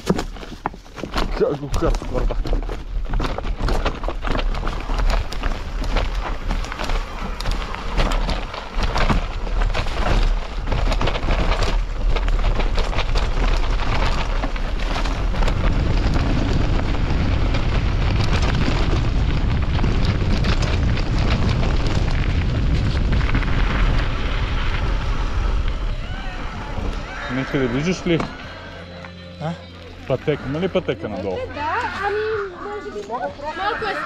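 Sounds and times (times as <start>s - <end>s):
wind rumble on microphone: 0.0s - 29.0s.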